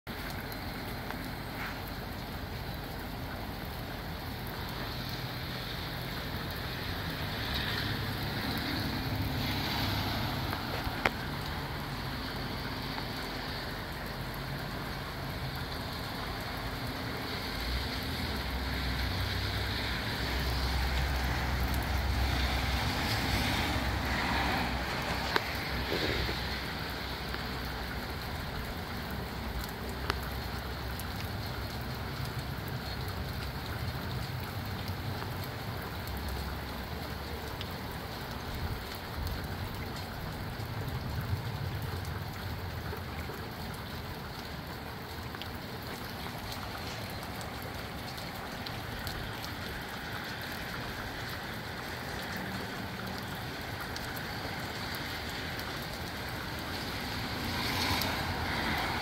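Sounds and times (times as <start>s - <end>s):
rain falling: 0.0s - 59.0s
sharp drip ticks: 0.1s - 59.0s.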